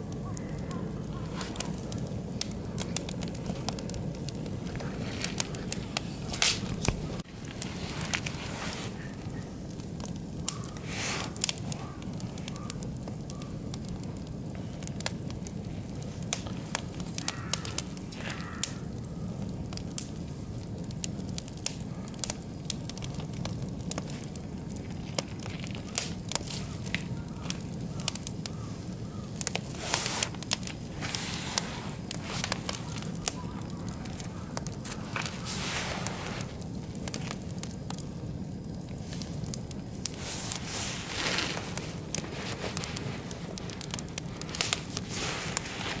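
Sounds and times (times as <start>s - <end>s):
low rumble of fire: 0.0s - 46.0s
wood fire crackling and popping: 0.0s - 46.0s.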